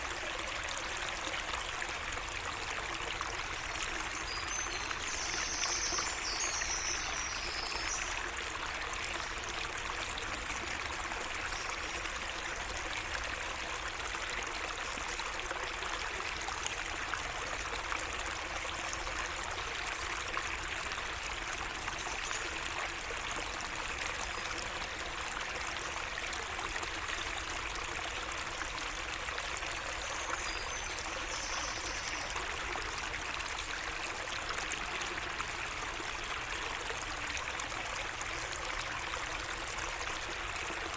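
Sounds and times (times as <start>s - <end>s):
stream trickling and splashing: 0.0s - 40.9s.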